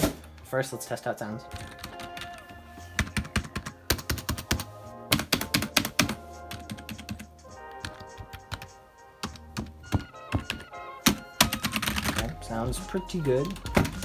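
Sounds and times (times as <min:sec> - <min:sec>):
background music: 0:00.0 - 0:14.0
keyboard typing: 0:01.5 - 0:14.0.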